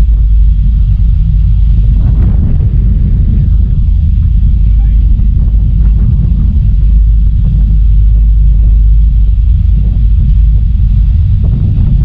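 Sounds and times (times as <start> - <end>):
ship engines rumbling: 0.0 - 12.0
wind buffeting microphone: 0.0 - 12.0.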